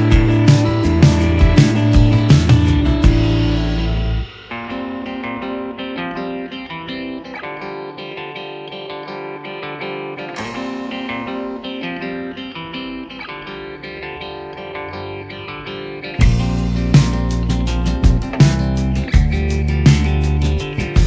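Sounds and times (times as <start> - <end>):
plucked guitar quick notes: 0.0 - 21.0.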